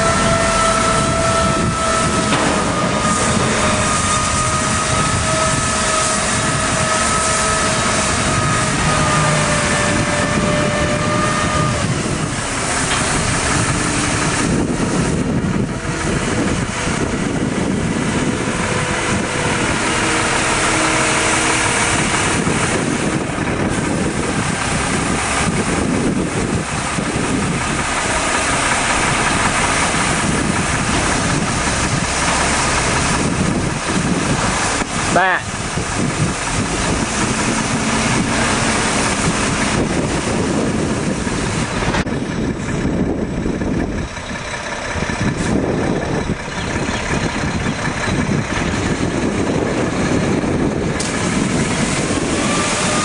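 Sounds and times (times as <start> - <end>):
loud rushing noise: 0.0 - 53.0
truck engine whine: 0.0 - 53.0.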